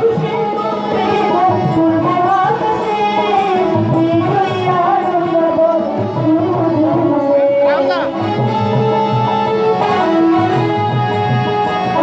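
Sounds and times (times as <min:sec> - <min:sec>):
ornamented melody: 0:00.0 - 0:12.0.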